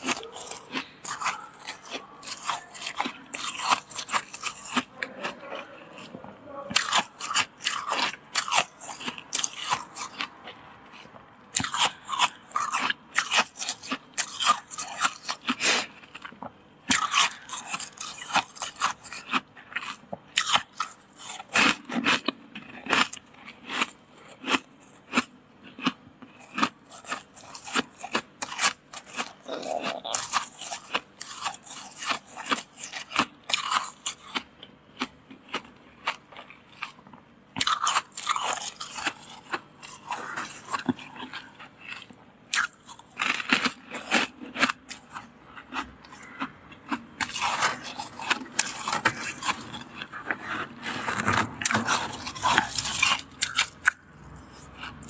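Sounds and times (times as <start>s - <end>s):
crunching of freezer frost: 0.0s - 55.0s.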